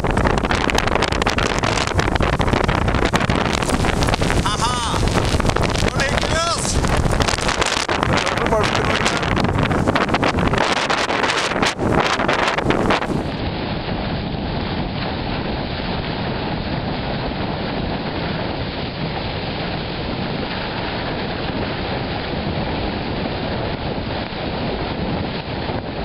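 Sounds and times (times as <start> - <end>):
storm wind beating on tent: 0.0 - 26.0.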